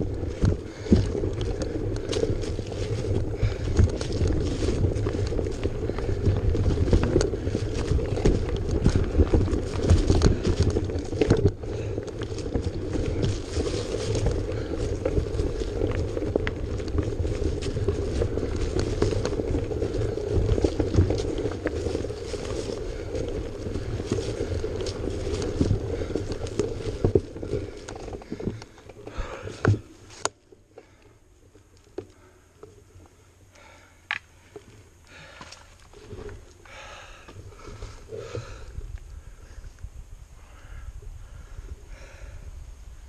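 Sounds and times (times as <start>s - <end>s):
low rumble on rocky trail: 0.0s - 43.0s.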